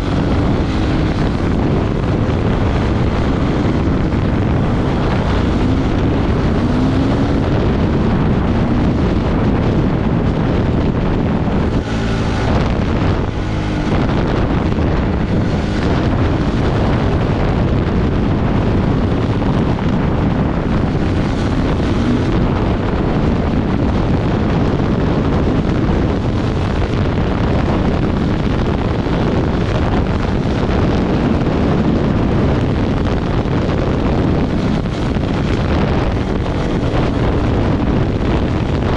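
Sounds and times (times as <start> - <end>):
motorcycle engine: 0.0 - 38.9
wind rushing on microphone: 0.0 - 38.9.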